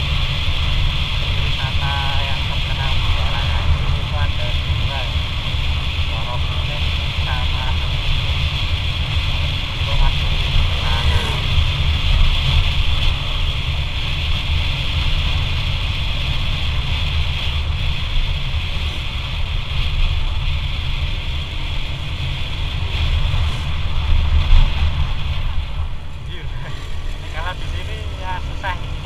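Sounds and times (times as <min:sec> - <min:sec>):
motorcycle engine and tyre noise: 0:00.0 - 0:29.0
wind rushing over microphone: 0:00.0 - 0:29.0.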